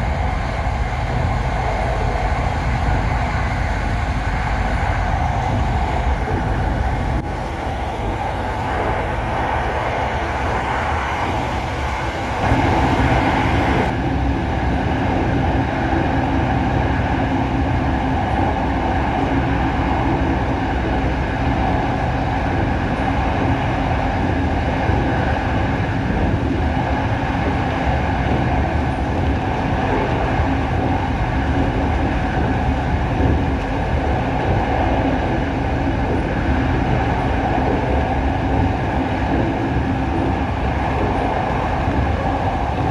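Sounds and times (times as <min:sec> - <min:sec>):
train wheels and motors rumbling: 0:00.0 - 0:42.9.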